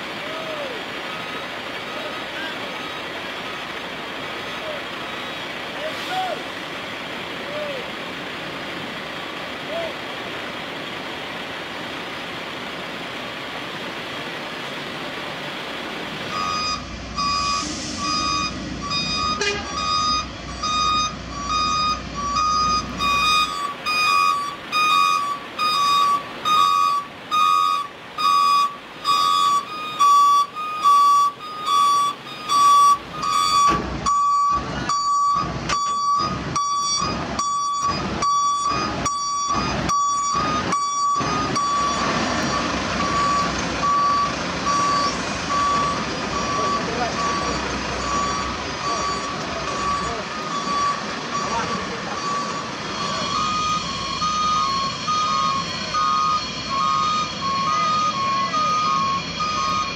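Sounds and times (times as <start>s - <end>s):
truck reversing alarm beeping: 0.0s - 10.0s, 16.2s - 59.9s
diesel engine rumble: 0.0s - 59.9s.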